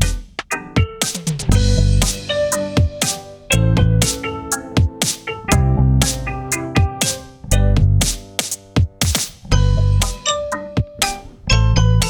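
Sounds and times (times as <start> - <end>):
electronic music with drum machine: 0.0 - 11.6.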